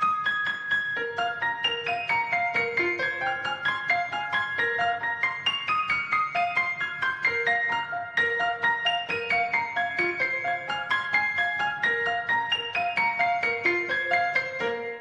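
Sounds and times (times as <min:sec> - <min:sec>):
piano-like keyboard melody: 0:00.0 - 0:15.0.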